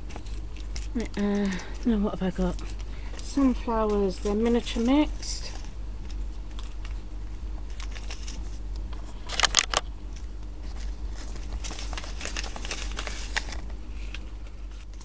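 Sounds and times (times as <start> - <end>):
paper packets crinkling: 0.0 - 15.0.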